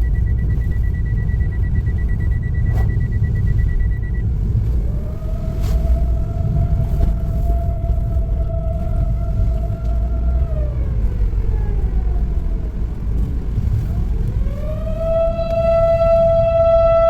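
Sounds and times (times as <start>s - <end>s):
constant low rumble: 0.0s - 17.0s
siren wailing: 2.4s - 17.0s.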